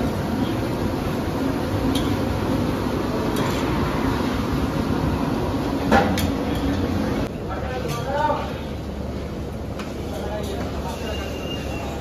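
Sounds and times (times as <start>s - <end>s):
restaurant kitchen rumble: 0.0s - 12.0s.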